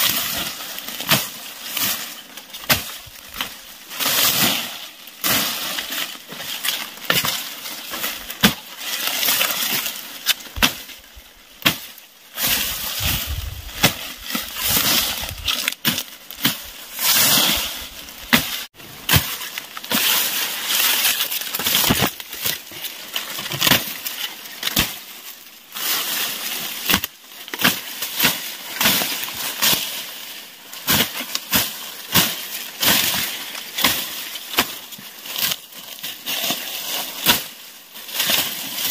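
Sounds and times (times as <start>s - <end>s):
stems crackling and rustling: 0.0s - 38.9s.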